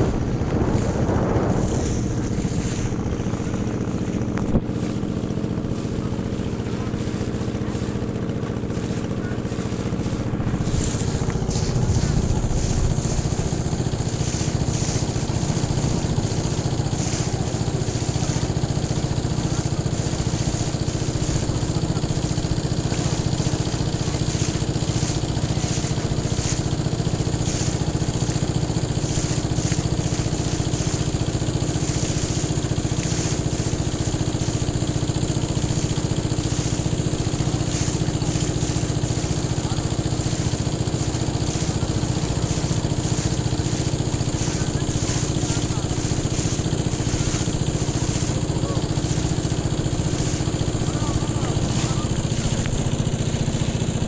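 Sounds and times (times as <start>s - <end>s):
boat engine droning: 0.0s - 54.0s
wind and water hiss: 0.0s - 54.0s.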